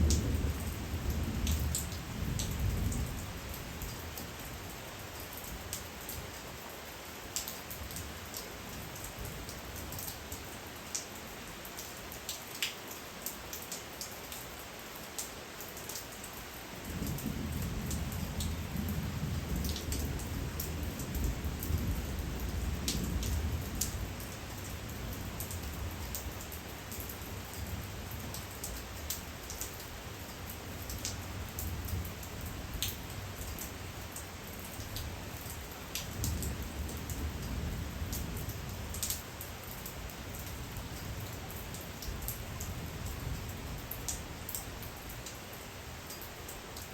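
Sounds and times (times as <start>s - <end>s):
raindrops ticking on surfaces: 0.0s - 46.9s
steady rain falling: 0.0s - 46.9s.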